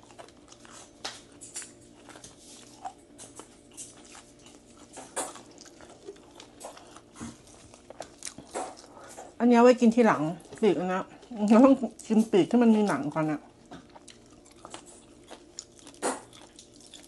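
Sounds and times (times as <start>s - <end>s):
chewing crispy fried meat: 0.0s - 17.0s.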